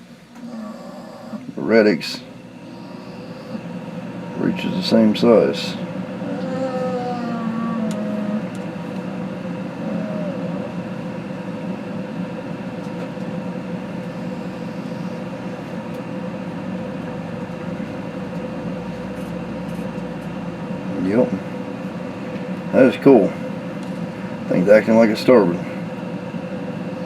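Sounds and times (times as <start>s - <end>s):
machine humming: 0.0s - 27.0s.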